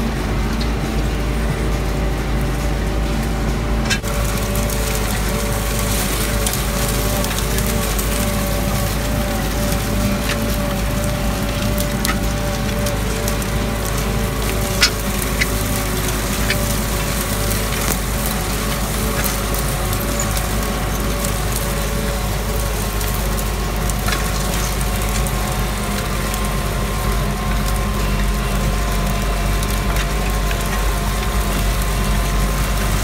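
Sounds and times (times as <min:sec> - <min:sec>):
disks cracking dry stalks: 0:00.0 - 0:33.0
rusty harrow gangs rattling: 0:00.0 - 0:33.0
tractor engine under load: 0:00.0 - 0:33.0.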